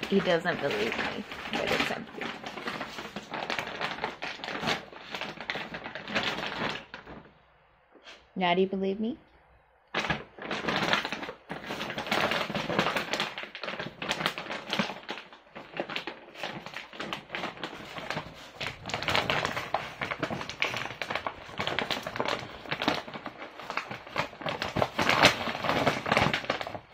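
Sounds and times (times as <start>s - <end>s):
foil bag crinkling: 0.0s - 7.4s, 9.9s - 26.9s.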